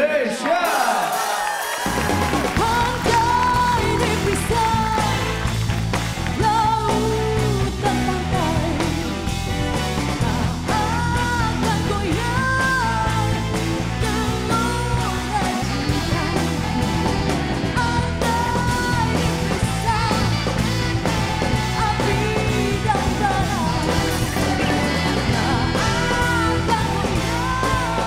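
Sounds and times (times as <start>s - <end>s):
rock music with singing: 0.0s - 28.0s.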